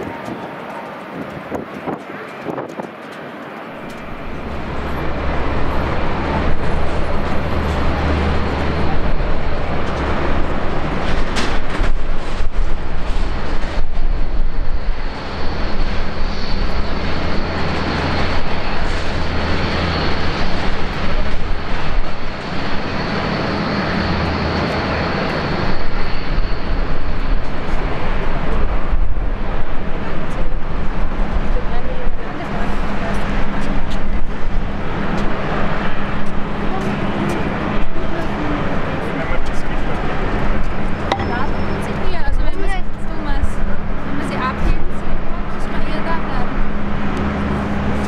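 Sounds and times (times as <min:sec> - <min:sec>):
jet engine rumble: 0:00.0 - 0:48.0
thin high engine whine: 0:03.3 - 0:48.0.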